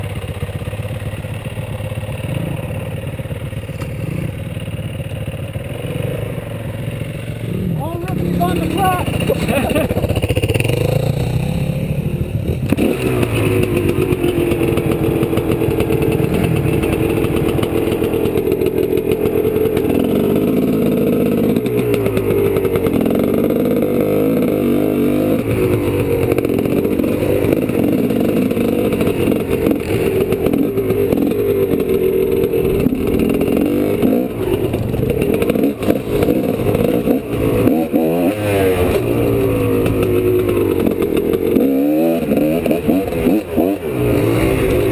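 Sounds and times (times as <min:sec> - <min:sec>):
dirt bike engine revving: 0:07.3 - 0:44.9.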